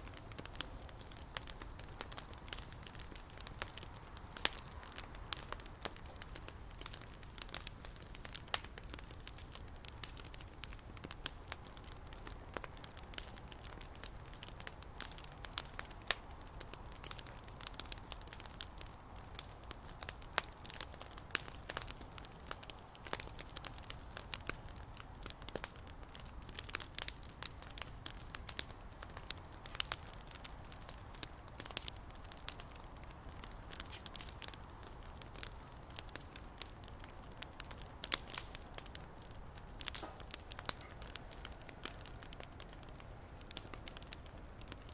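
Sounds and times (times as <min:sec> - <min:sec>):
bonfire crackling and popping: 0:00.0 - 0:44.9.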